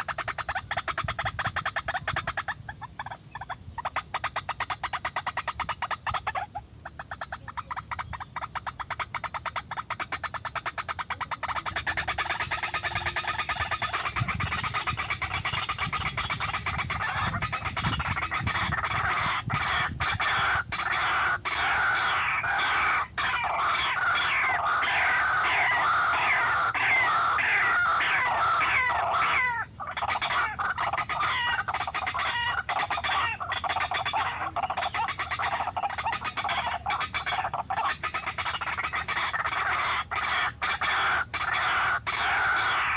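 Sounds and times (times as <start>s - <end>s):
waterhen calling rapid notes: 0.0s - 42.9s.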